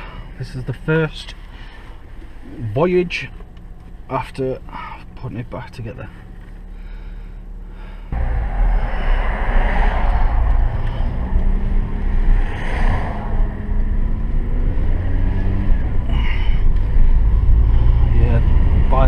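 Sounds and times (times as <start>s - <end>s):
car engine running: 0.0s - 19.0s
road and tyre noise: 0.0s - 19.0s.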